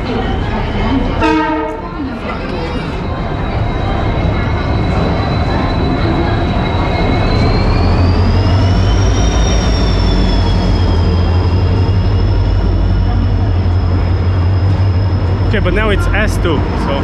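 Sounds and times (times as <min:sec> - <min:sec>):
train rumble: 0:00.0 - 0:17.0
high-pitched train squeal: 0:00.1 - 0:17.0.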